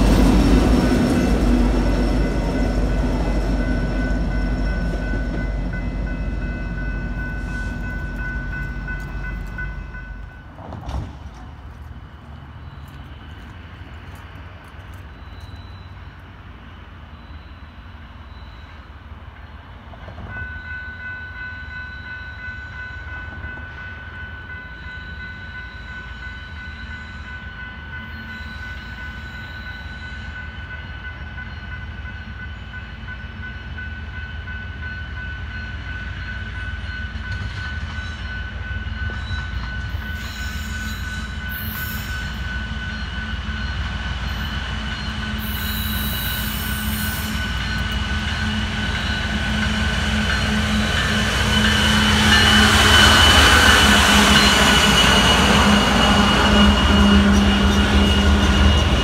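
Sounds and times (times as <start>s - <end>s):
train engine and rail rumble: 0.0s - 59.0s.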